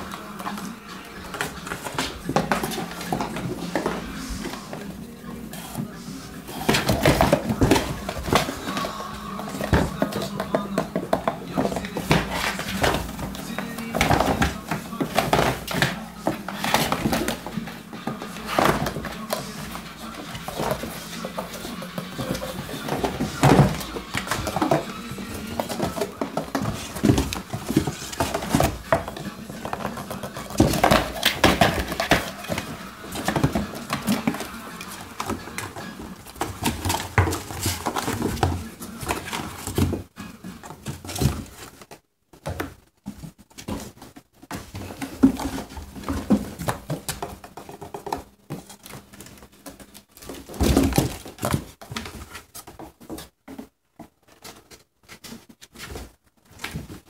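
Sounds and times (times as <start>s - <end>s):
cat scratching cardboard boxes: 0.0s - 57.0s.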